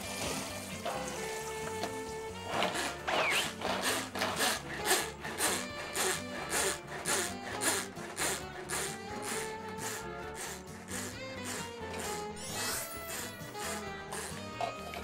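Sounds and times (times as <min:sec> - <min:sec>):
background music: 0:00.0 - 0:15.0
rhythmic scraping strokes: 0:00.3 - 0:15.0.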